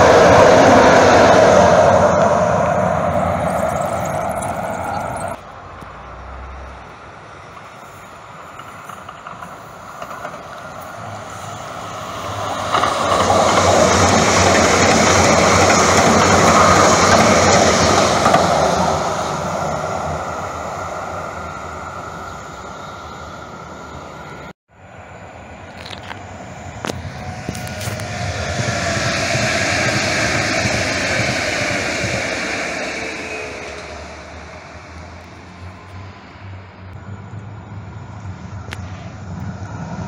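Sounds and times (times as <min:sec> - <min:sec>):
light rail train passing: 0:00.0 - 0:40.0.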